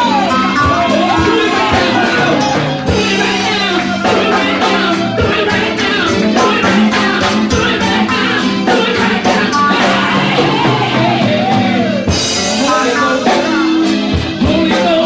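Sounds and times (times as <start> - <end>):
church band playing: 0.0 - 15.0
person singing: 0.0 - 15.0.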